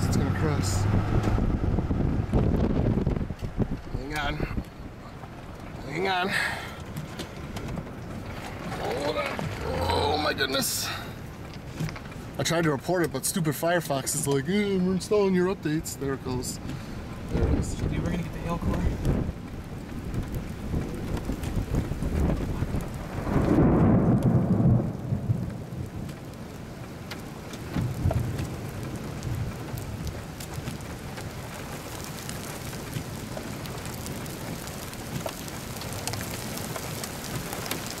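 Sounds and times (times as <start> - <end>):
thunder rumble: 0.0 - 12.4, 16.9 - 38.0
rain beating on a vehicle: 0.0 - 38.0
sharp ticks of raindrops: 0.0 - 38.0.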